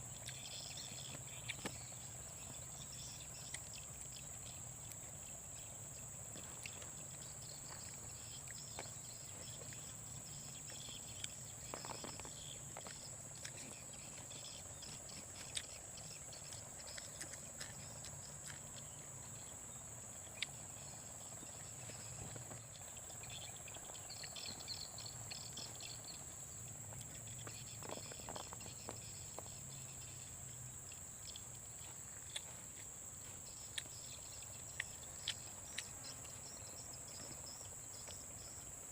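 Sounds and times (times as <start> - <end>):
faint chirping calls: 0.0 - 38.9.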